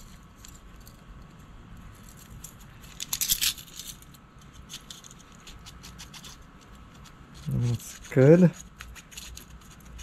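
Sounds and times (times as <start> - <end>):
small metal clicks and scrapes: 1.9 - 10.0.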